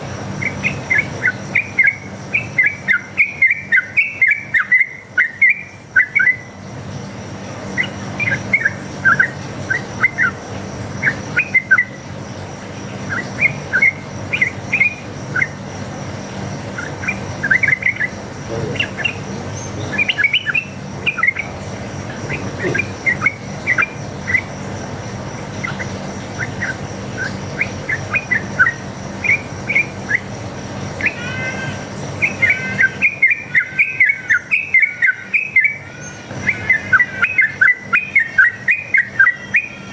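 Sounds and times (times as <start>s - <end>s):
bulbul chirping song: 0.0s - 39.9s
steady low hum: 0.0s - 39.9s.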